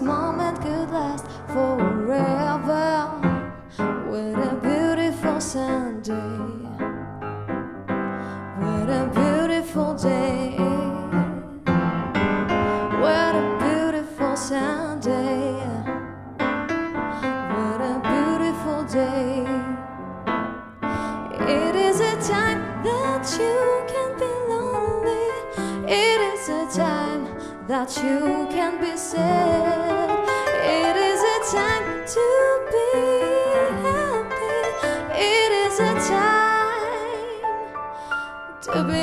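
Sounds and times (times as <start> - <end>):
woman singing slow pop song: 0.0 - 7.0, 8.3 - 11.7, 12.6 - 16.1, 17.1 - 19.9, 20.9 - 39.0
upright piano accompaniment: 0.0 - 39.0.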